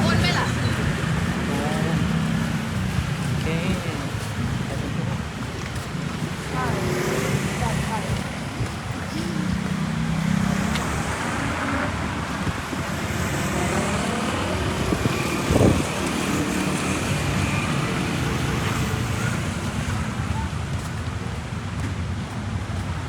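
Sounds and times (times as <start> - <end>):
traffic from passing vehicles: 0.0 - 23.0.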